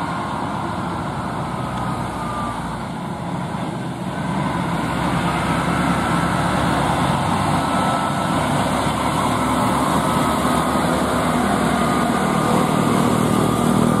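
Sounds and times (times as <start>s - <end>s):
diesel truck driving past: 0.0s - 14.0s.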